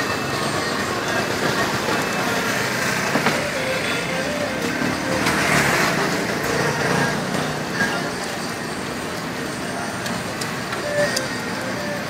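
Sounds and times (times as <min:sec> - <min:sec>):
road traffic din: 0:00.0 - 0:12.0.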